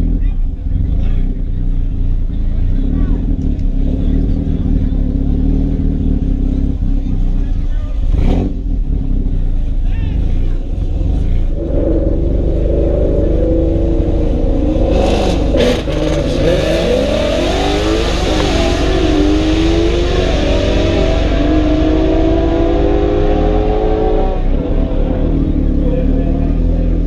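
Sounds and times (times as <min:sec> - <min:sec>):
turbocharged engine accelerating: 0:00.0 - 0:27.0.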